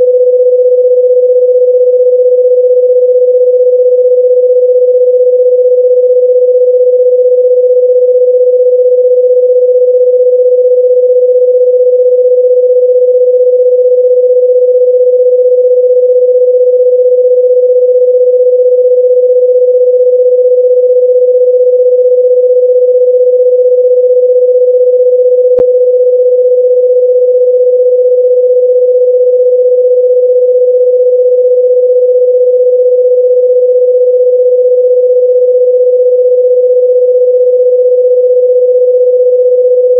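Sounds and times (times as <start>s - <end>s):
steady electronic sine tone: 0.0s - 39.9s.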